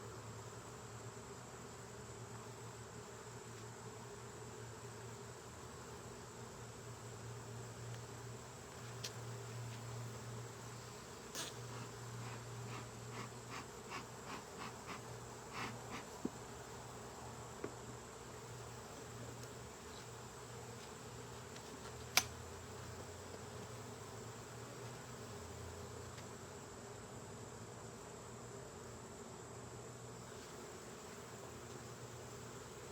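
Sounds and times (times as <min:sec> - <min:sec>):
honeybees buzzing: 0:00.6 - 0:32.9.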